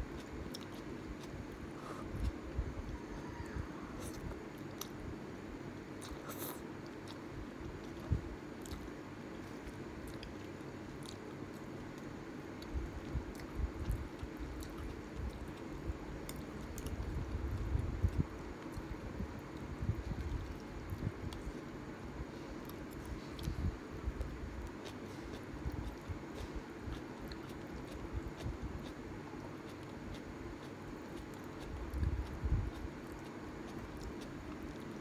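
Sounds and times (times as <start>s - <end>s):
chewing noodles: 0.0s - 5.0s, 6.0s - 35.0s
low hum: 0.0s - 28.8s.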